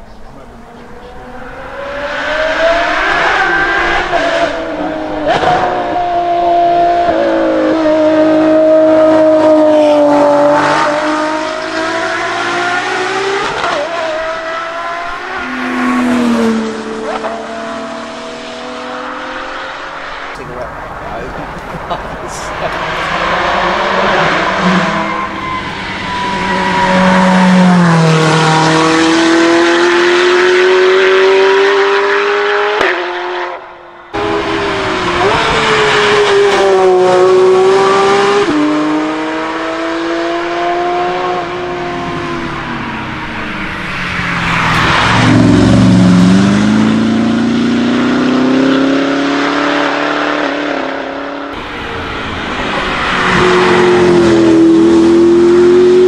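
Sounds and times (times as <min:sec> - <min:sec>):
sports cars accelerating hard: 0:00.0 - 0:56.0.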